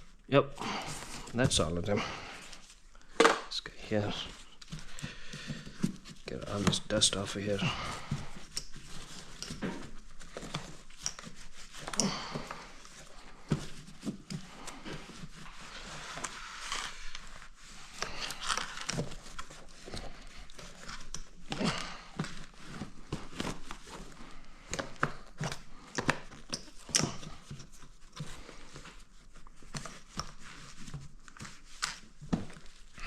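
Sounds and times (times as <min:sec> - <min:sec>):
hand rubbing plastic cover: 0:00.8 - 0:33.0.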